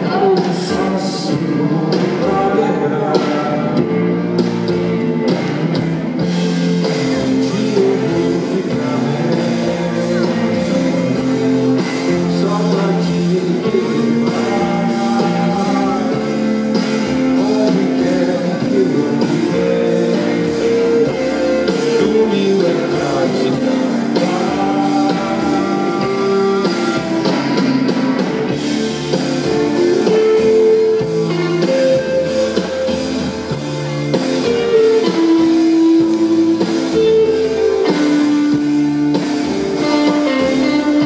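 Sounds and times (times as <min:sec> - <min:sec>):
person singing: 0:00.0 - 0:04.3, 0:06.7 - 0:41.0
guitars and drums playing: 0:00.0 - 0:41.0.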